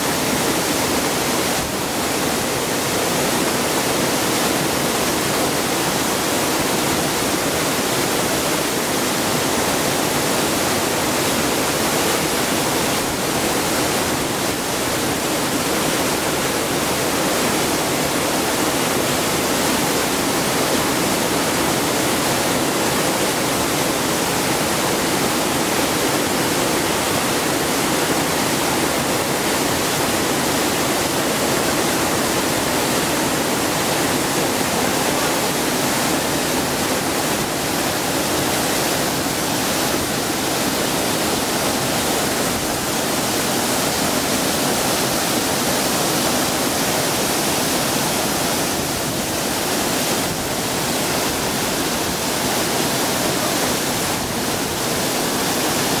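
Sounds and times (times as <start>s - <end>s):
waterfall over rocks: 0.0s - 56.0s.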